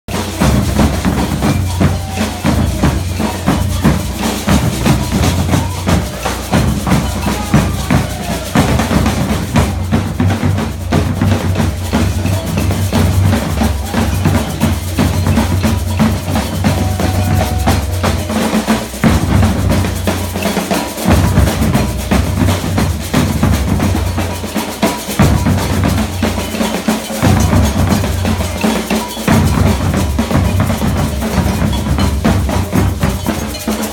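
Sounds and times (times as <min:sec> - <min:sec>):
crisp snare drums: 0:00.1 - 0:33.9.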